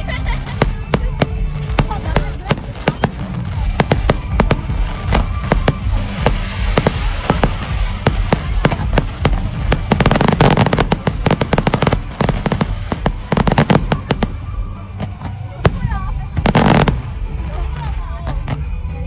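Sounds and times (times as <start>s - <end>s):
fireworks cracking and popping: 0.0s - 19.0s.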